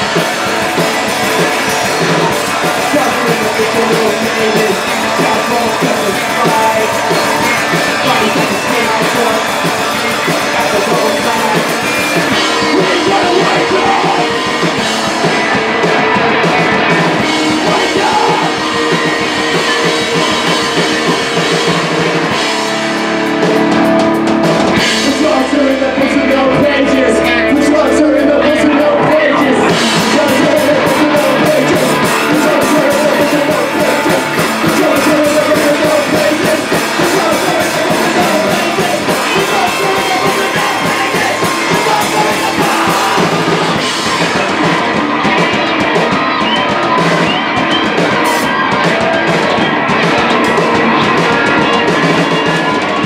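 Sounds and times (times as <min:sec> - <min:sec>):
person singing: 0:00.0 - 0:22.5, 0:24.7 - 0:53.0
bass guitar: 0:00.0 - 0:53.0
drum kit: 0:00.0 - 0:53.0
electric guitar: 0:00.0 - 0:53.0.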